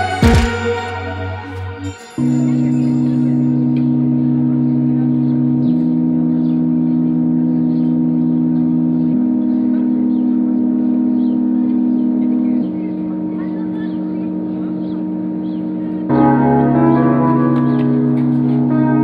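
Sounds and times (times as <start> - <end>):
ambient drone music: 0.0 - 19.0.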